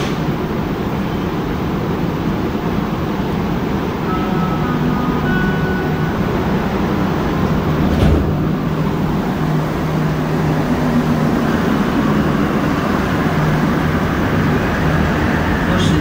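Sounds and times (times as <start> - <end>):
metro train rumbling in tunnel: 0.0 - 16.0.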